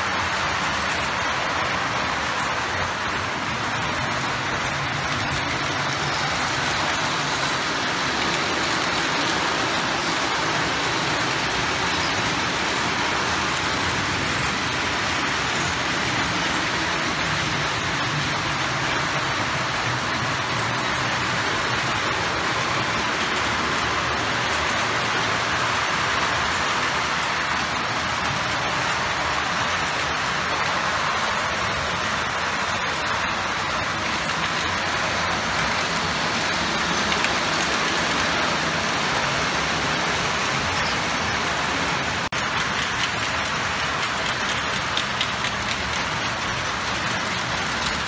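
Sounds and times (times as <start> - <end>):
model train wheels rolling on rail: 0.0 - 48.0
locomotive motors whirring: 0.4 - 48.0.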